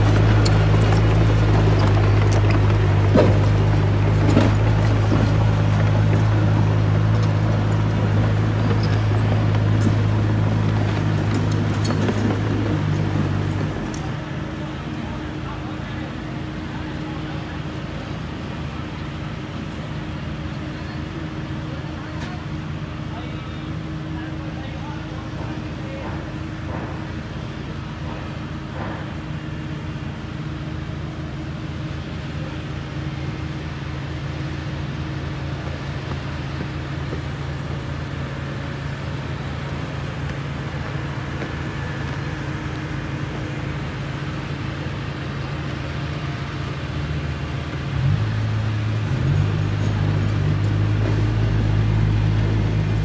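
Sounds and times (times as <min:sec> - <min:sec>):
heavy diesel machinery running: 0:00.0 - 0:53.0.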